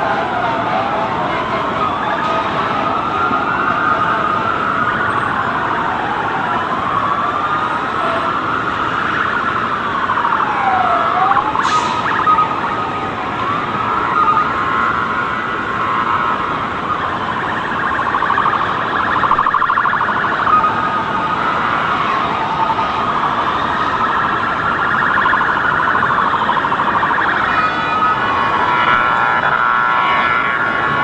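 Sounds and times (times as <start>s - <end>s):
emergency sirens wailing: 0.0s - 31.0s
street noise: 0.0s - 31.0s.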